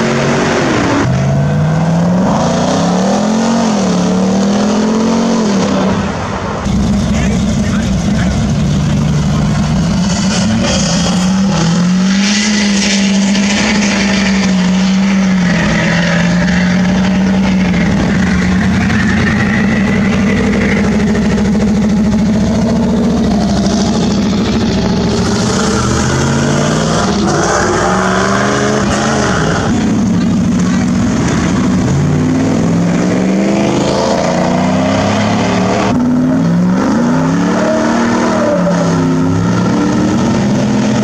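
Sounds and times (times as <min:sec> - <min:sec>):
car accelerating: 0:00.0 - 0:41.0
hot rod car engines running: 0:00.0 - 0:41.0.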